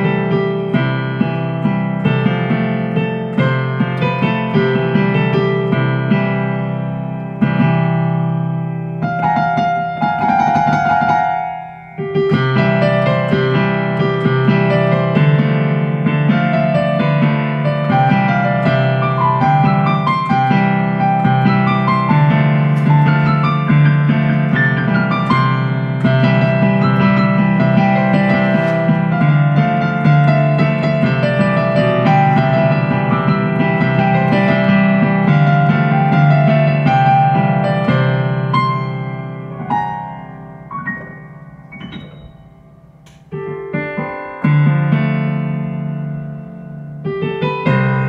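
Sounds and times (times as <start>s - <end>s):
digital piano playing: 0.0s - 48.0s.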